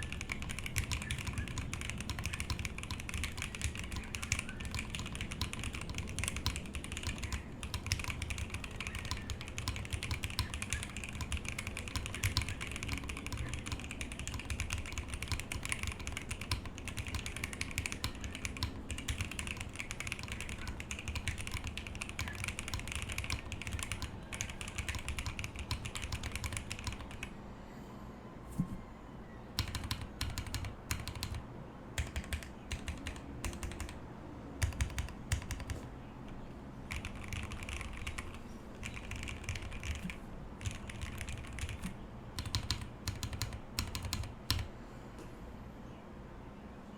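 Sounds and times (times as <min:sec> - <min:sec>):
fast typing on mechanical keyboard: 0:00.0 - 0:27.3, 0:29.6 - 0:31.4, 0:32.0 - 0:34.0, 0:34.6 - 0:44.7.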